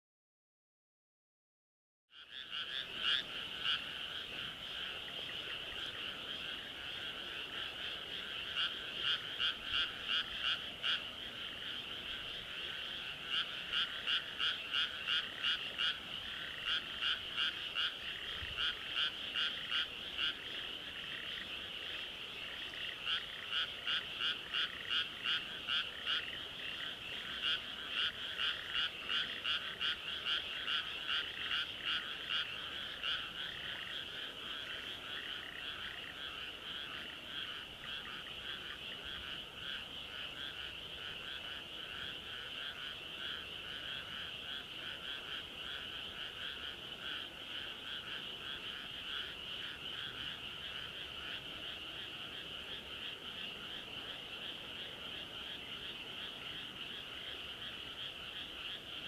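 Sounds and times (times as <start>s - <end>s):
chorus of frogs calling: 2.1s - 59.0s
frog croaks: 2.1s - 59.0s.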